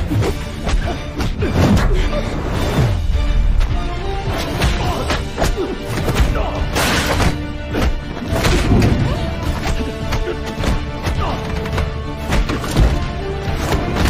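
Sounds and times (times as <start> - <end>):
dramatic music: 0.0 - 14.0.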